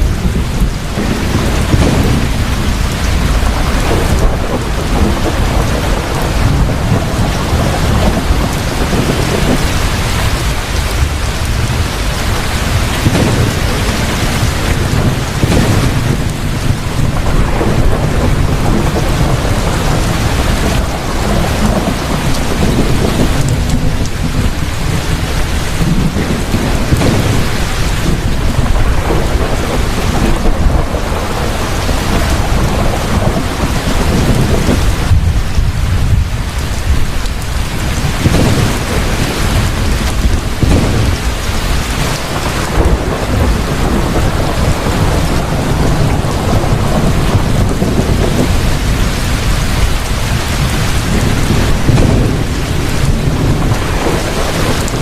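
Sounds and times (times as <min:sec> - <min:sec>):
heavy rain: 0:00.0 - 0:55.0
low rolling thunder: 0:00.0 - 0:55.0.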